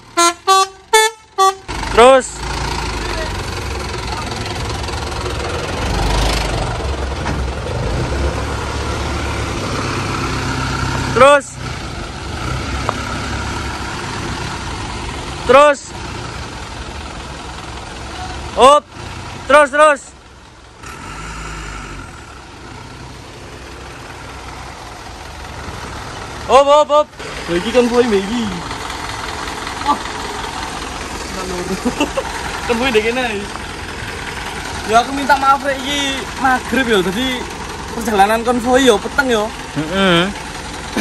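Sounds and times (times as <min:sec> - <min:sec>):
diesel engine rumbling: 0:00.0 - 0:41.0.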